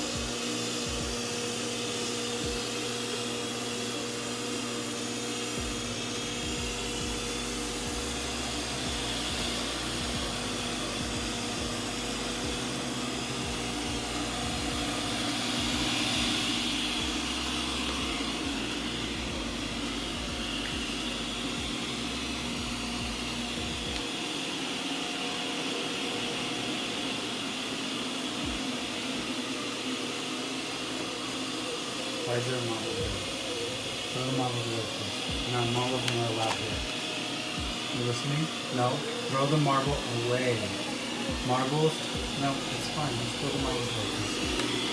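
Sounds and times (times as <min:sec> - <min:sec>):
robot vacuum whirring: 0:00.0 - 0:44.9.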